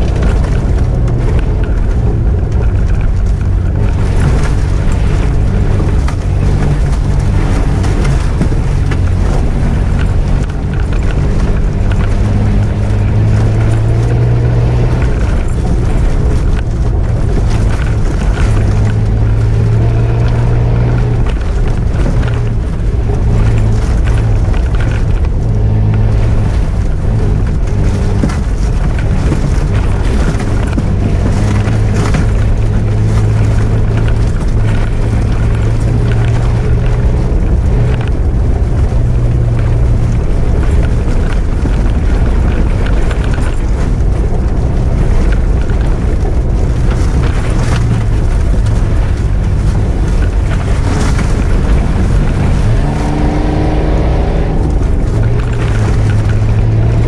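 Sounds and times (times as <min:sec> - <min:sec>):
car engine running: 0:00.0 - 0:57.0
road noise: 0:00.0 - 0:57.0.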